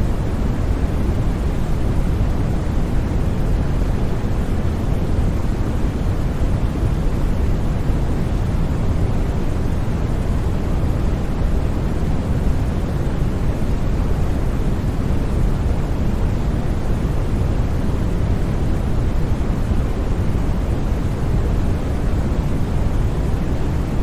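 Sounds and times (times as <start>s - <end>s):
deep white noise hiss: 0.0s - 24.0s.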